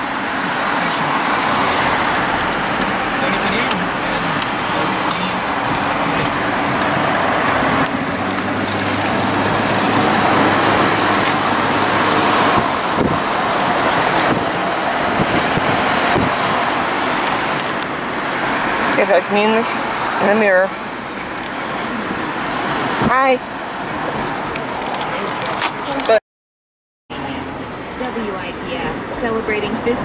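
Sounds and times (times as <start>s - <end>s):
car road noise rush: 0.0s - 26.2s, 27.1s - 30.0s.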